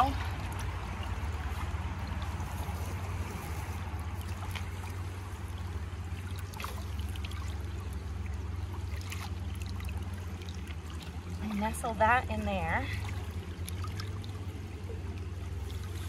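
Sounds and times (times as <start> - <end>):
clicks and sloshes in water: 0.0 - 12.3, 12.9 - 16.0
shallow water running: 0.0 - 16.0.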